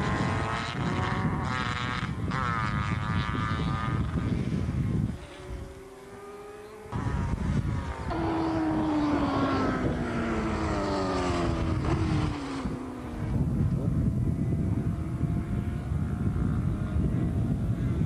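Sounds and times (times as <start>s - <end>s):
distant motorcycle engine: 0.0s - 18.0s
motorcycle passing close: 0.0s - 18.0s.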